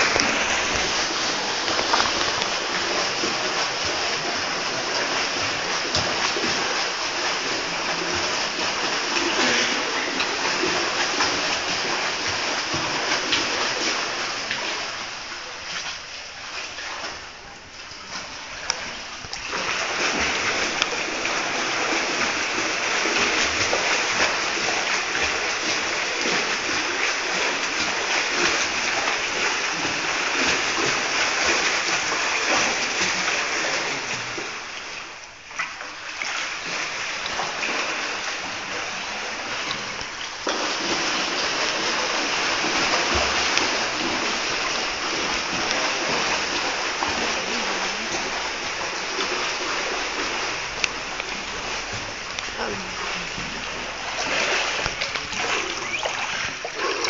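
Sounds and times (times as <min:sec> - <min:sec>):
pool water splashing: 0:00.0 - 0:57.0.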